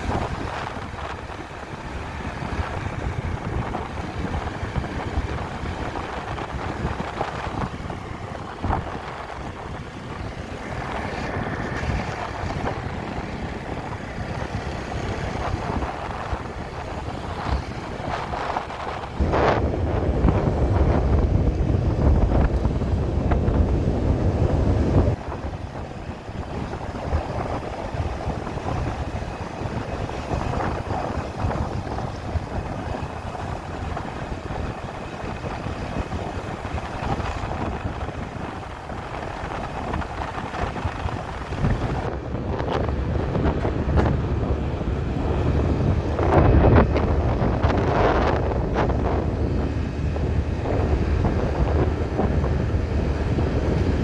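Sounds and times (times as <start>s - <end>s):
low wind rumble: 0.0s - 54.0s
street traffic: 0.0s - 54.0s
wind rushing over microphone: 0.0s - 54.0s.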